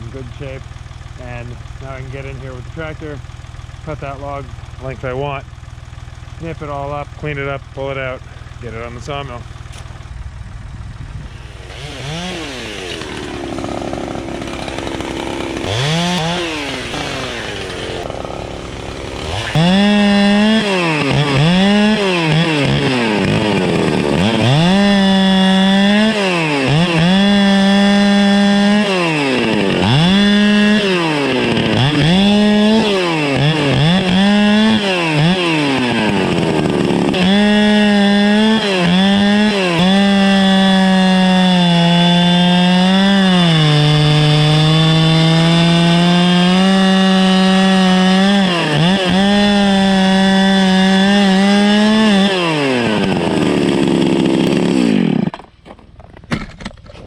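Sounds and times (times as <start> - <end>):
chainsaw revving: 0.0 - 10.4, 11.2 - 55.5.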